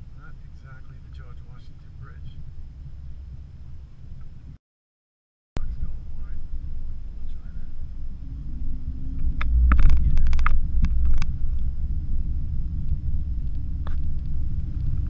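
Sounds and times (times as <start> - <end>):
low car cabin rumble: 0.0 - 4.6, 5.6 - 15.0.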